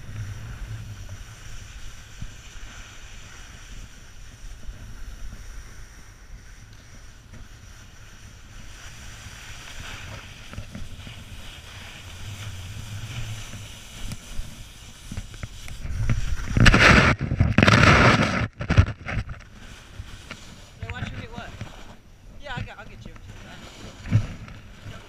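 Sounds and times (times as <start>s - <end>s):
body sliding through snow: 0.0s - 18.5s, 19.4s - 25.0s
snowboard sliding on snow: 0.0s - 25.0s
wind rushing over microphone: 0.0s - 25.0s.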